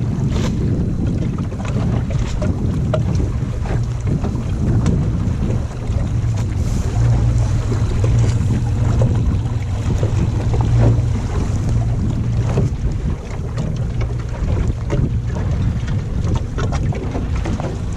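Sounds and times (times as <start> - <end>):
water slapping against hull: 0.0 - 17.9
wind buffeting microphone: 0.0 - 17.9.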